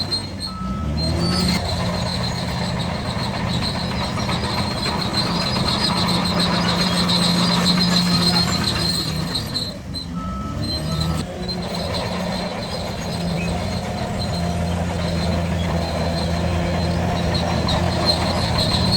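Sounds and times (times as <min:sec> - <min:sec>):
bulldozer diesel engine running: 0:00.0 - 0:18.9
steel tracks squealing: 0:00.0 - 0:18.9.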